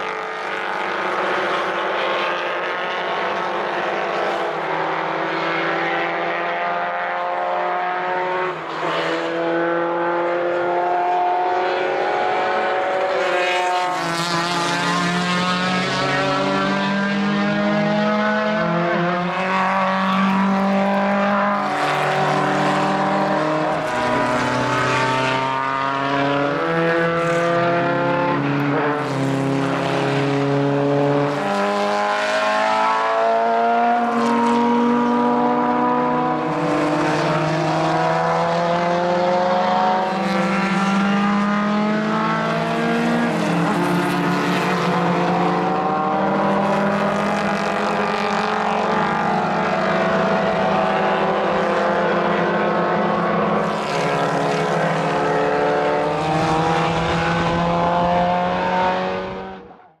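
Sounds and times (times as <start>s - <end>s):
racing car engines passing: 0.0s - 60.0s.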